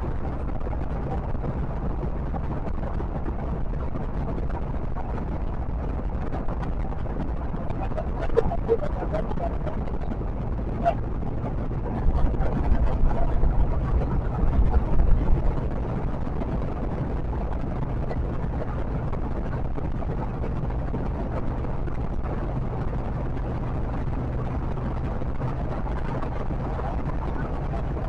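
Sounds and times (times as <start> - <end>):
low engine hum: 0.0 - 28.0
road and wind noise: 0.0 - 28.0.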